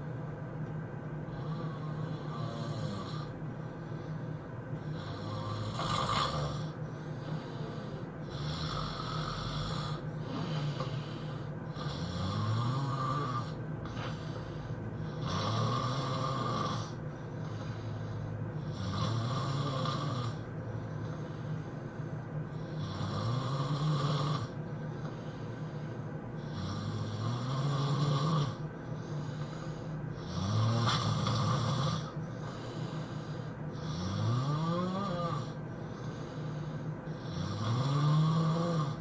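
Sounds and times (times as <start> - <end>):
person snoring: 1.3 - 4.1, 4.8 - 21.6, 22.5 - 39.0.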